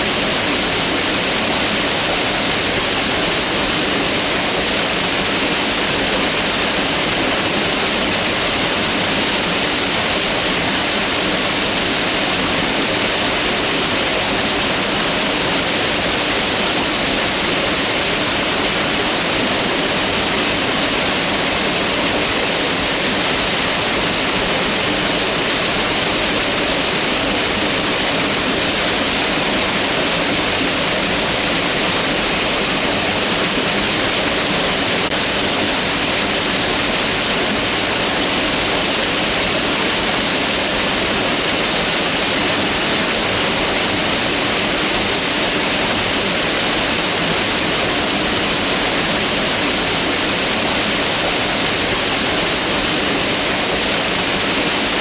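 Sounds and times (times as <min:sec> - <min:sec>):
mountain river flowing: 0:00.0 - 0:55.0.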